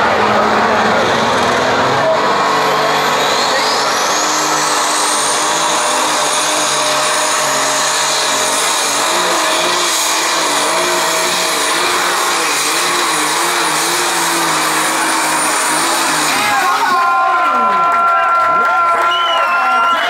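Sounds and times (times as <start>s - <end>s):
high turbo whine: 0.0s - 18.0s
pulling tractor engine roaring: 0.0s - 20.0s.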